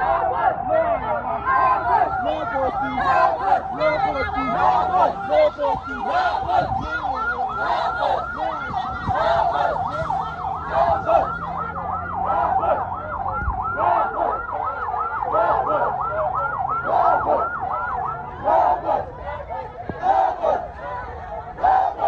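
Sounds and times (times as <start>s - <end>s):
siren yelping: 0.0s - 22.0s.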